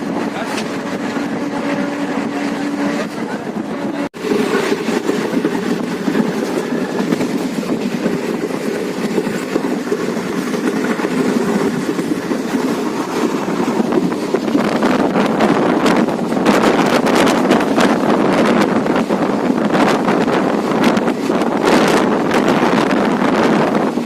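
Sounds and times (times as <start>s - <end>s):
train wheels running on track: 0.0s - 24.0s.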